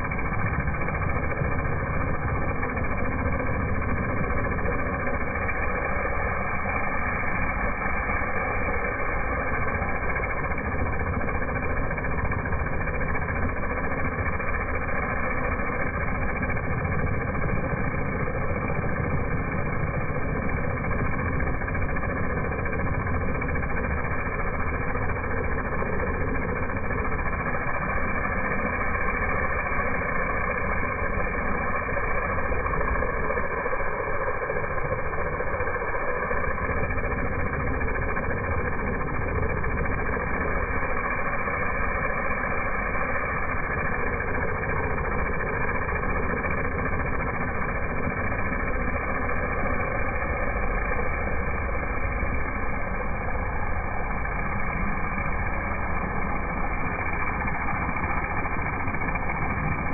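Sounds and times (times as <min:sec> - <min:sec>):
pressure washer engine droning: 0:00.0 - 0:59.9
water jet spraying on asphalt: 0:00.0 - 0:59.9.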